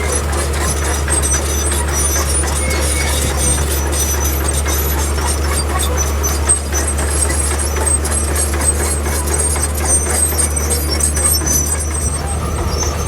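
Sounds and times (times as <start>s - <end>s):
faint high squeaks: 0.0s - 7.8s, 9.3s - 13.0s
heavy machinery diesel engine: 0.0s - 13.0s.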